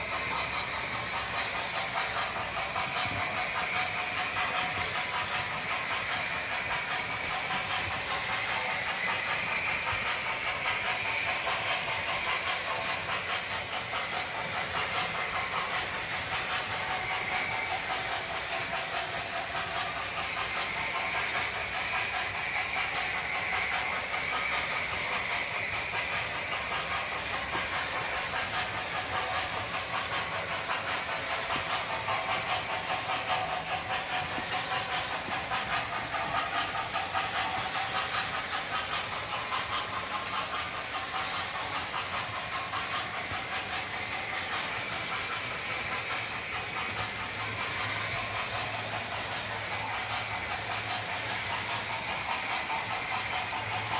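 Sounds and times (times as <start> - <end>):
model locomotive steam hiss: 0.0 - 53.9
rail clatter: 0.0 - 53.9.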